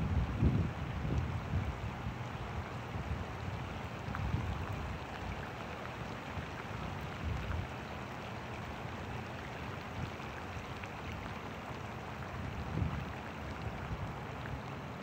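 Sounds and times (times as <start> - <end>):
rain on a pond: 0.0 - 15.0.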